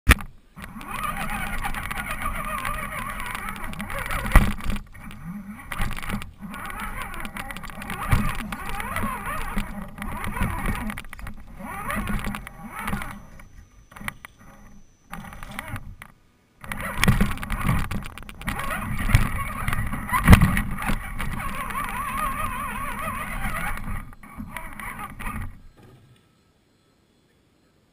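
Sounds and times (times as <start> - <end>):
toy truck knocking over rough ground: 0.1 - 14.4, 15.1 - 26.0
electric motor and gears whining: 0.1 - 26.0.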